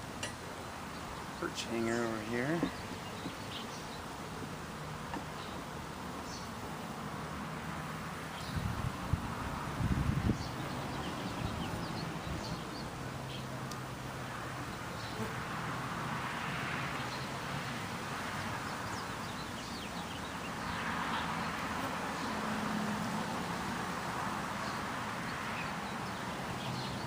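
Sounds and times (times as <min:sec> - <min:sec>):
honeybees humming: 0:00.0 - 0:27.0
street traffic: 0:00.0 - 0:27.0
wind: 0:00.0 - 0:27.0.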